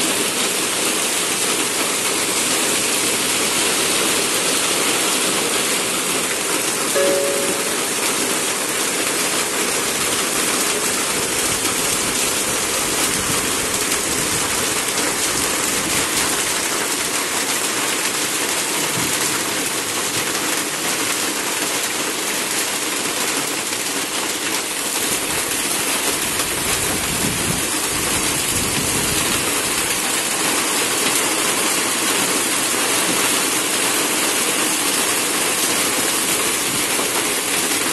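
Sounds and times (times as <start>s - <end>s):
heavy rain on trees and road: 0.0s - 37.9s.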